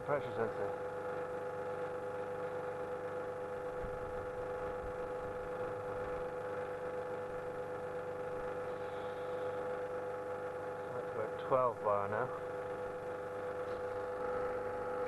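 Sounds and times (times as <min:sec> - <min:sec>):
pump humming: 0:00.0 - 0:15.0.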